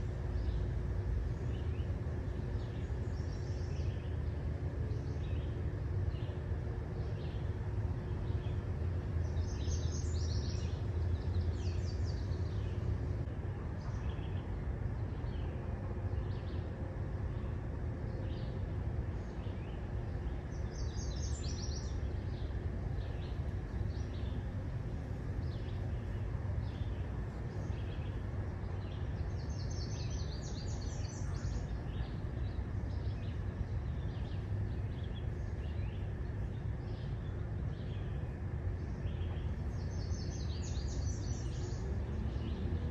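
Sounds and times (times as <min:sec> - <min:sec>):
birds chirping: 0:00.1 - 0:16.7, 0:18.1 - 0:42.9.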